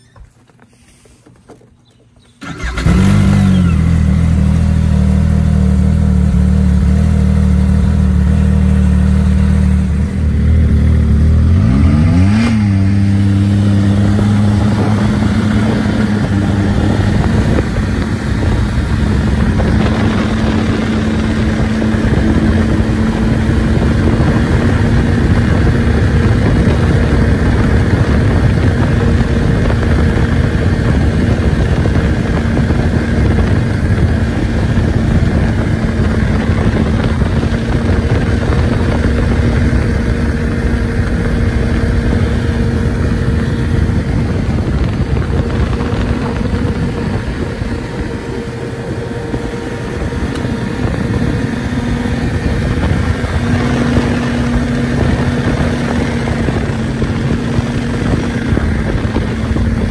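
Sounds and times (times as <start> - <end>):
snowmobile engine starting and revving: 1.9 - 59.9.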